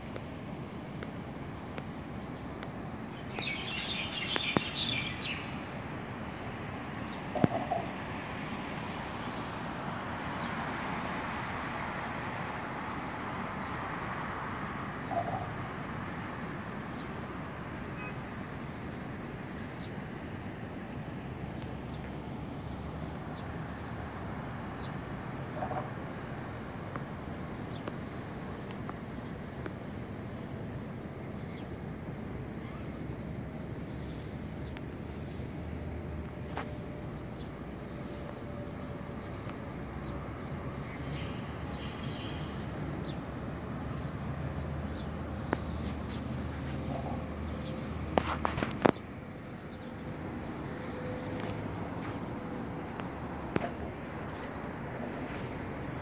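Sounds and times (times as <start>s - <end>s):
distant road traffic hum: 0.0s - 56.0s.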